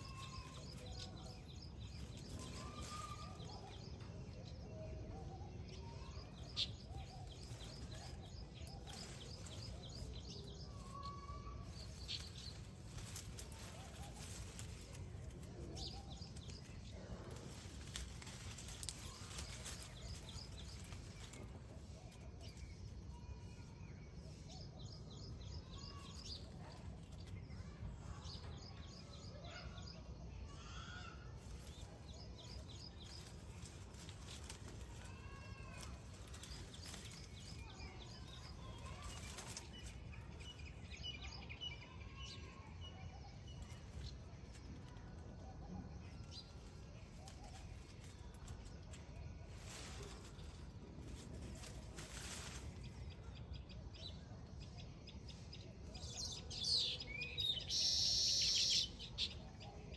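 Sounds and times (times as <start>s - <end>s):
birds chattering and calling: 0.0s - 23.6s, 24.3s - 59.9s.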